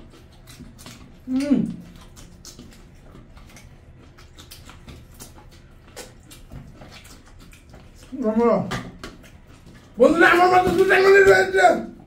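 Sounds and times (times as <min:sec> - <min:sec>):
lip smacks: 0:00.0 - 0:10.0
chewing: 0:00.0 - 0:11.1.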